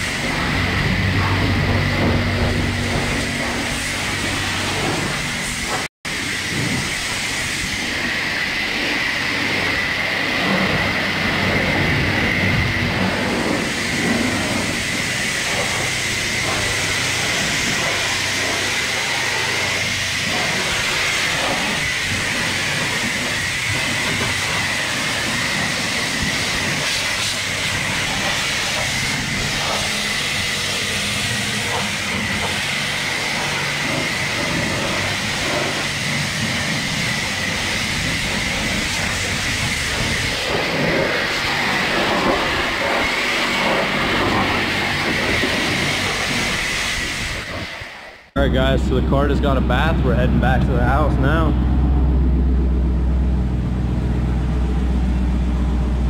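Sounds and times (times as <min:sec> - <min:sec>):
pressure washer spraying water: 0:00.0 - 0:48.1.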